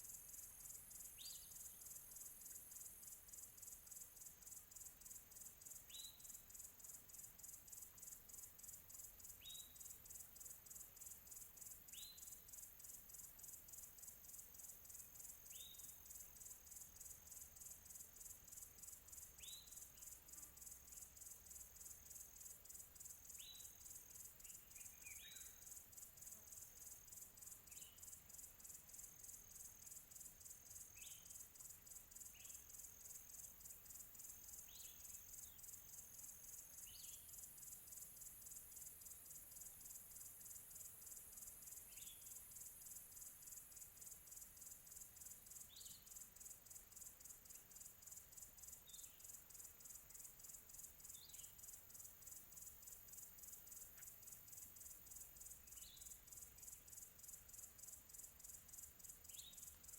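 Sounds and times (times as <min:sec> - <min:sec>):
insect chorus trilling: 0:00.0 - 0:59.9.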